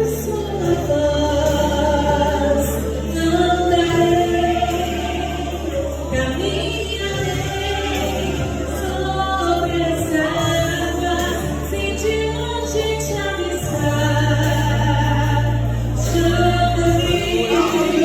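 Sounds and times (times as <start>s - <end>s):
low bass notes: 0.0s - 18.0s
woman singing gospel song: 0.0s - 18.0s.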